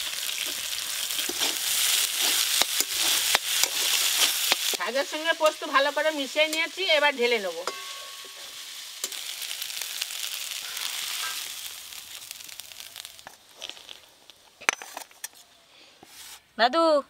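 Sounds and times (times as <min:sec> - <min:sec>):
greens sizzling in oil: 0:00.0 - 0:15.4.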